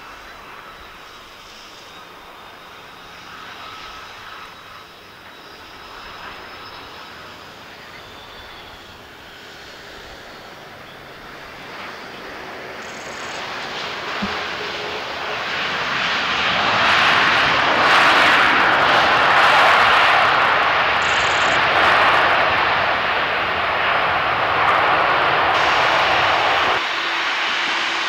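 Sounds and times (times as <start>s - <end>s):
airliner engines hissing and whining: 0.0s - 28.0s.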